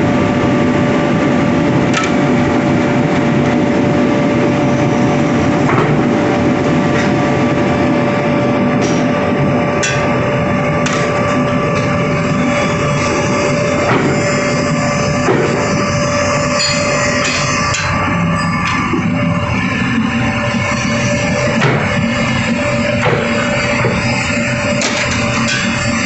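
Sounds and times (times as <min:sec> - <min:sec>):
machinery drone and hum: 0:00.0 - 0:26.0.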